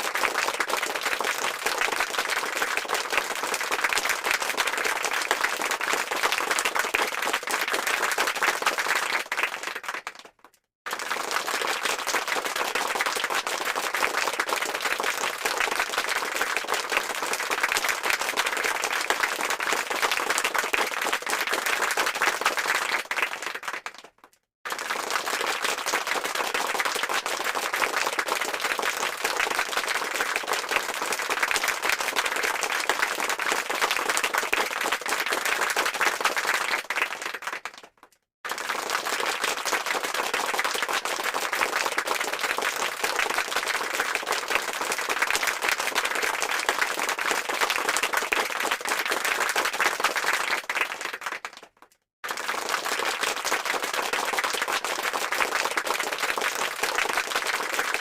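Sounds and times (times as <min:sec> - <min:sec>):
crowd clapping: 0:00.0 - 0:58.0.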